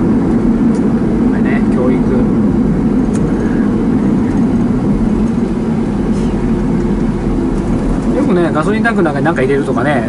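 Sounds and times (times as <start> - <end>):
truck engine and road drone: 0.0 - 10.0.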